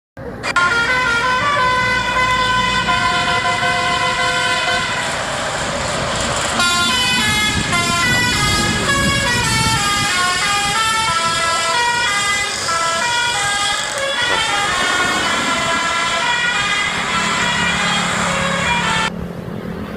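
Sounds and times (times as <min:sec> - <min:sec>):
air horn playing a melody: 0:00.6 - 0:05.2, 0:06.6 - 0:19.1
rush of noise: 0:03.7 - 0:19.9.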